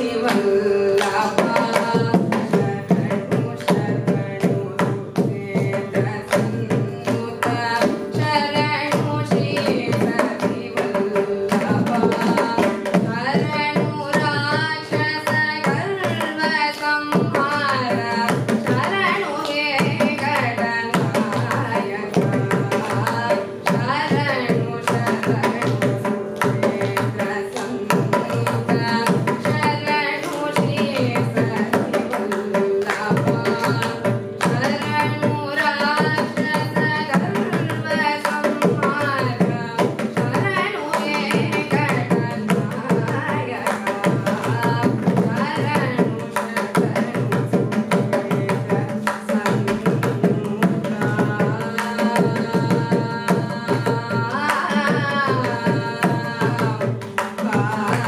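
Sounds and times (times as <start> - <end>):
girl singing: 0.0 - 58.0
mridangam drum rhythm: 0.0 - 58.0.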